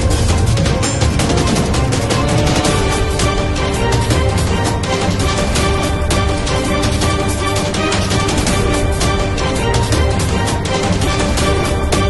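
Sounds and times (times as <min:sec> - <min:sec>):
sharp percussive hits: 0:00.0 - 0:12.0.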